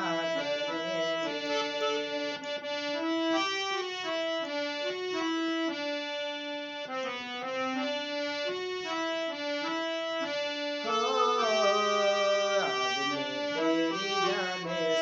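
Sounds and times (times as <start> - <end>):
harmonium melody: 0.0 - 15.0.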